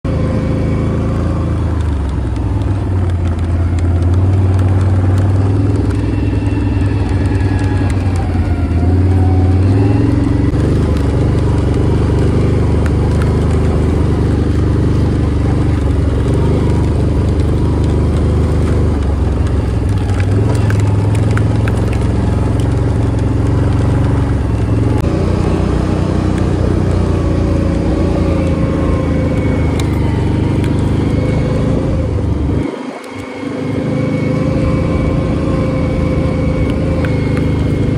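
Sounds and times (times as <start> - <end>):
quad bike engine running: 0.0 - 37.9.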